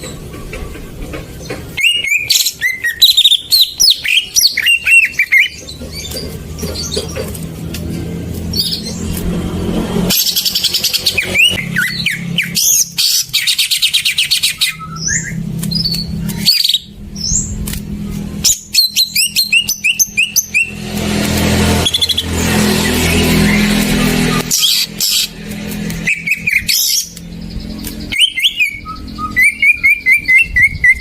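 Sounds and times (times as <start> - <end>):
bird whistles and trills: 1.4 - 7.4, 10.1 - 17.6, 18.4 - 21.0, 21.8 - 31.0
steady low hum: 5.2 - 30.9.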